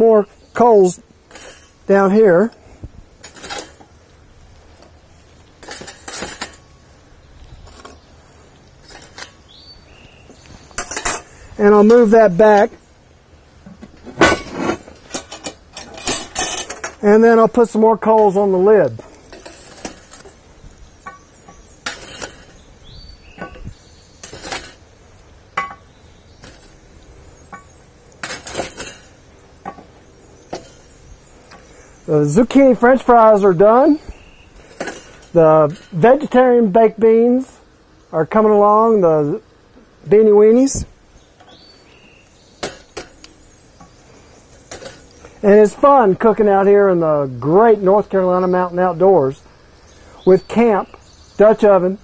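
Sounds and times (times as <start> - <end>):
charcoal coals clattering: 0.0 - 52.0.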